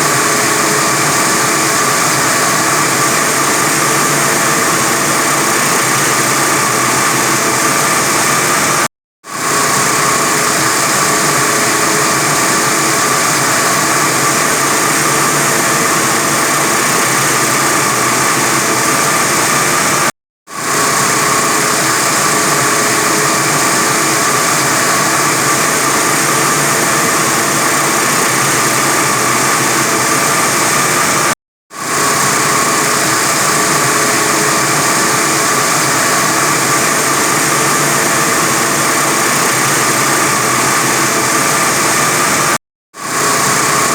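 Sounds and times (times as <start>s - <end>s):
wire saw cutting concrete: 0.0s - 43.9s.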